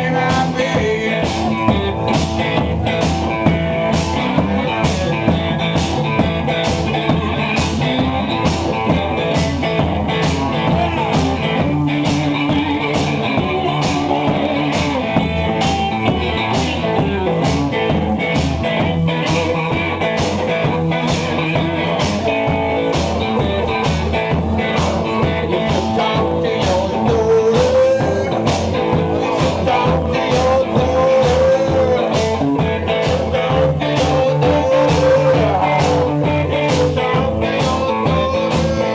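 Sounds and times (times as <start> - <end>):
driving drum beat: 0.0 - 38.9
electric guitar: 0.0 - 38.9.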